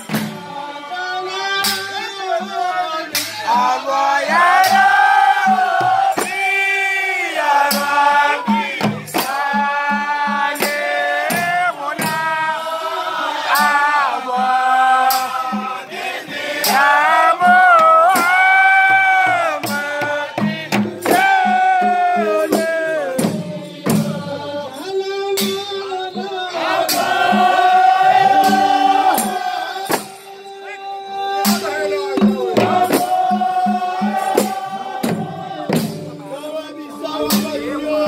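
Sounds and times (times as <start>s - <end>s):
hand claps or frame drum beats: 0.0s - 0.6s, 1.4s - 12.8s, 13.5s - 24.6s, 25.2s - 30.5s, 31.3s - 36.4s, 37.2s - 38.0s
group singing devotional chant: 0.0s - 38.0s.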